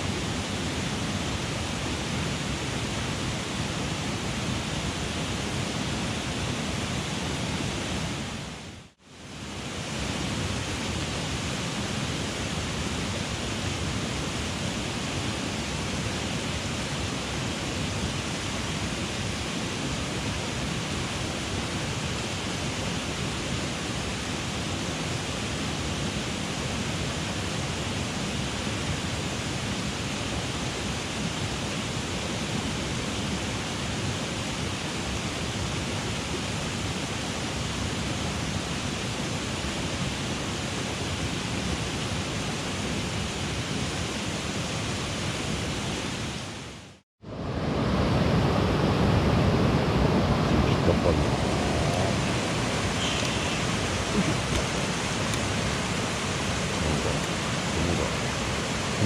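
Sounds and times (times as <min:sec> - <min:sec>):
stream rushing: 0:00.0 - 0:46.7, 0:47.4 - 0:59.0.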